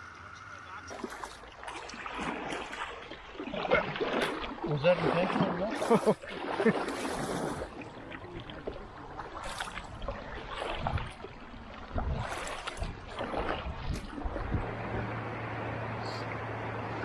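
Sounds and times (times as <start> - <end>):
paddle strokes splashing: 0.9 - 15.2.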